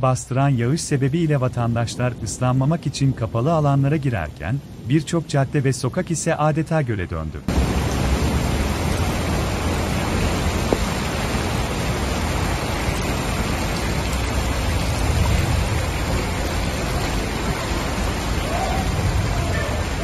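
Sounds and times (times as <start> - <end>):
heavy rain on street: 0.0 - 20.0.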